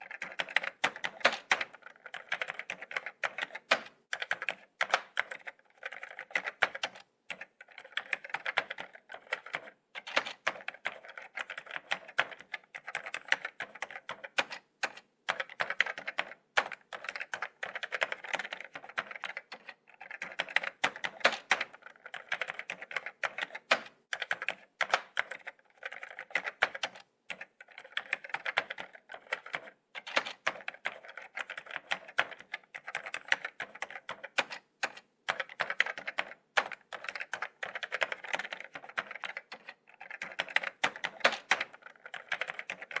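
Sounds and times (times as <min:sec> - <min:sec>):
laptop keyboard typing: 0:00.0 - 0:43.0.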